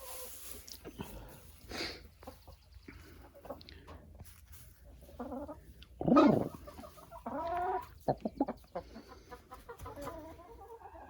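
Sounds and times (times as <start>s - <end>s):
chickens clucking and squawking: 0.0s - 11.0s.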